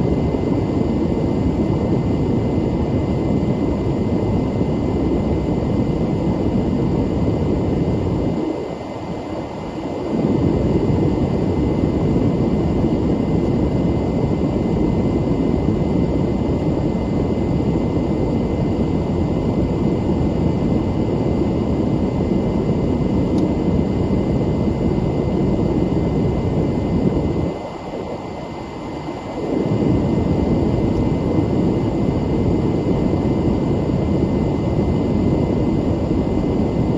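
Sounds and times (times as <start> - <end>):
turboprop engines and propellers: 0.0 - 36.9.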